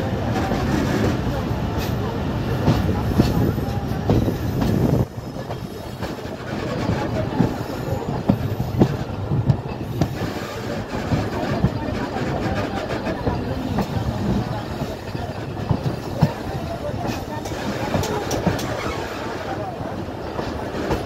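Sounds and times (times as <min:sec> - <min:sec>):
train wheels rumbling on rails: 0:00.0 - 0:21.0
wheels clacking at rail joints: 0:00.2 - 0:21.0.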